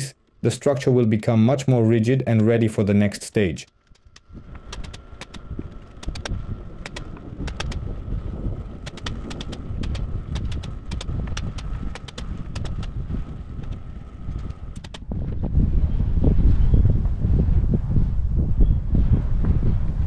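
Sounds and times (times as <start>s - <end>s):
wind rumbling on microphone: 3.8s - 20.0s.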